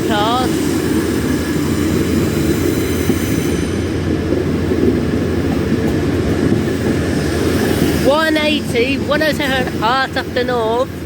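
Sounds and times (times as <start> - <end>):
train running past: 0.0 - 11.0.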